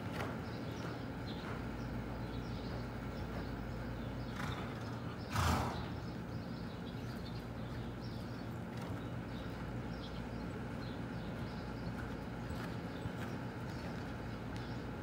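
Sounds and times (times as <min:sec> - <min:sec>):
hoofbeats on arena footing: 0:00.0 - 0:15.0
horse cantering close by: 0:00.0 - 0:15.0
steady low hum: 0:00.0 - 0:15.0.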